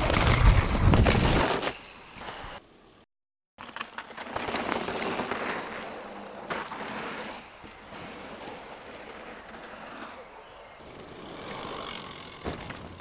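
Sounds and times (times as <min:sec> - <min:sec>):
bike tyres rolling over dirt: 0:00.0 - 0:02.6, 0:03.6 - 0:13.0.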